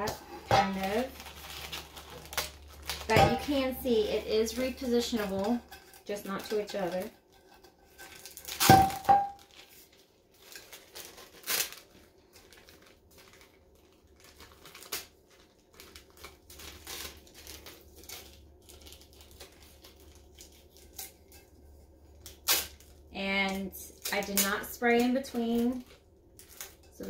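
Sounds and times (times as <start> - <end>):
adhesive vinyl crinkling: 0.0 - 27.0.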